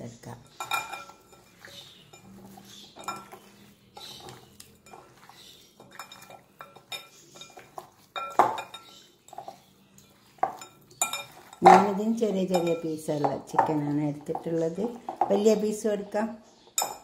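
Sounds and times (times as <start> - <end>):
meat knocking against glass bowl: 0.6 - 15.4.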